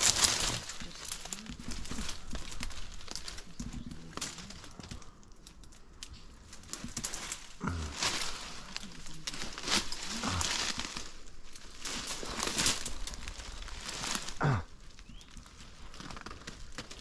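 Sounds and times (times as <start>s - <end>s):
brambles rustling and crackling: 0.0s - 17.0s.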